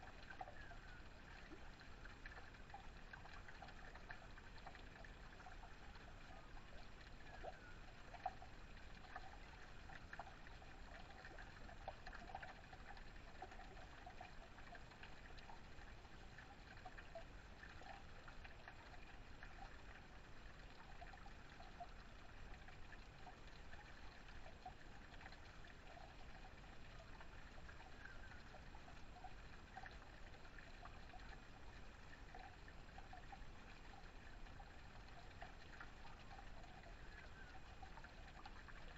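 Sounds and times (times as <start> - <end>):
water trickling down stone wall: 0.0 - 38.9.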